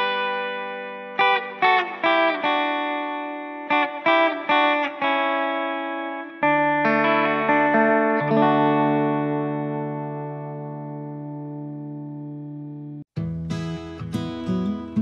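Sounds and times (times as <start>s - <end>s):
electric guitar picking notes: 0.0s - 15.0s.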